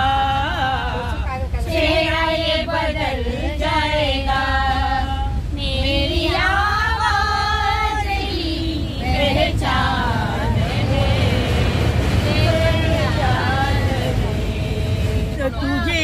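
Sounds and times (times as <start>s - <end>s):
train carriage rumble: 0.0s - 16.0s
women singing together: 0.0s - 16.0s.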